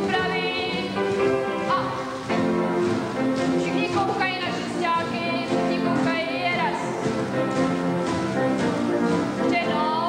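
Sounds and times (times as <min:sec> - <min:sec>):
held chord music: 0:00.0 - 0:10.0.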